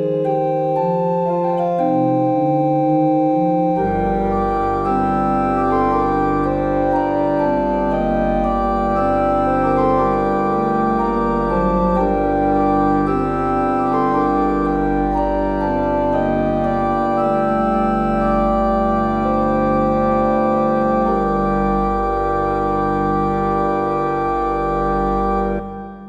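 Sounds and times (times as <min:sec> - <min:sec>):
organ-like keyboard chords: 0:00.0 - 0:26.0.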